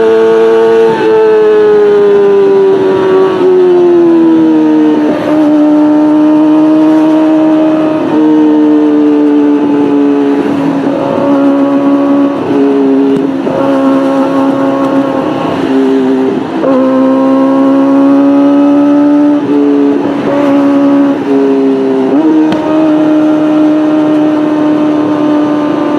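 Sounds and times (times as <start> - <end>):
motorcycle engine revving high: 0.0 - 25.9.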